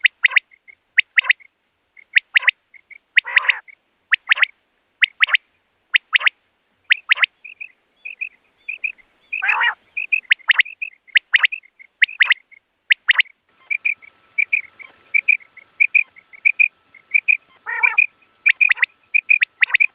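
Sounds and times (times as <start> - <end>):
quail calling: 0.0 - 19.9
soft chirps: 0.0 - 19.9.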